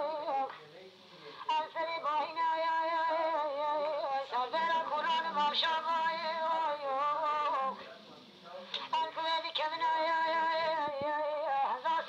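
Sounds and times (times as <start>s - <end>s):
person singing: 0.0s - 0.6s, 1.5s - 7.8s, 8.9s - 12.0s.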